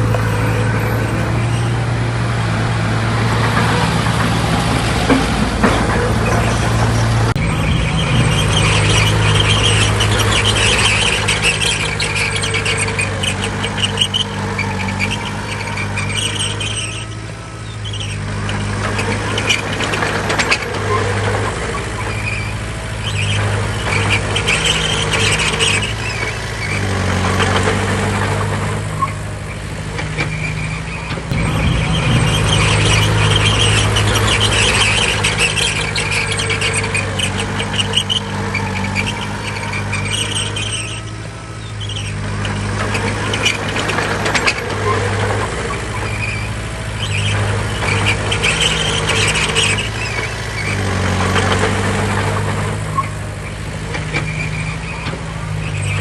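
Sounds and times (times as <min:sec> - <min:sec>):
bulldozer diesel engine under load: 0:00.0 - 0:56.0
crawler tracks squealing and clanking: 0:00.0 - 0:56.0.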